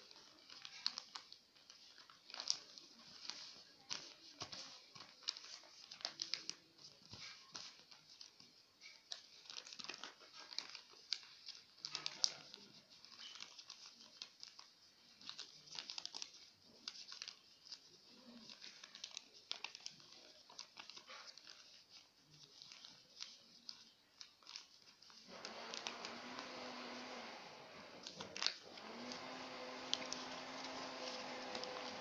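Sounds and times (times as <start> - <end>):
paper crinkling while folded: 0.0 - 32.0.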